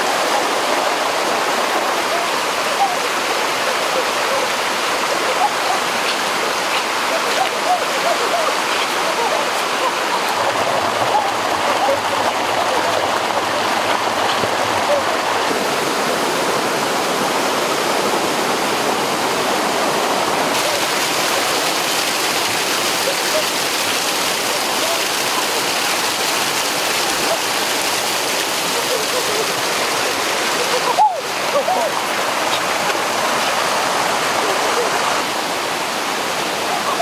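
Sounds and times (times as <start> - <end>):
waterfall rushing over rocks: 0.0 - 37.0.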